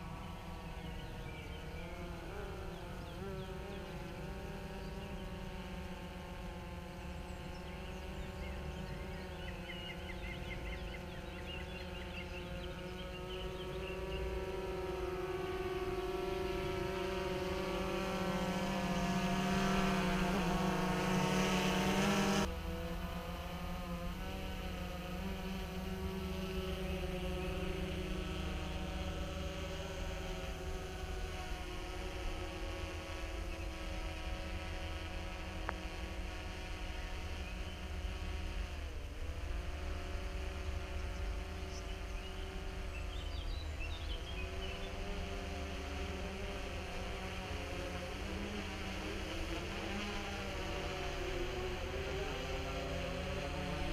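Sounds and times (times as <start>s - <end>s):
drone propellers buzzing: 0.0s - 53.9s.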